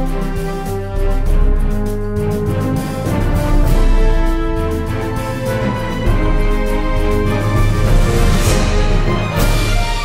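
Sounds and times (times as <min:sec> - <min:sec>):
deep bass: 0:00.0 - 0:10.0
orchestral music: 0:00.0 - 0:10.0.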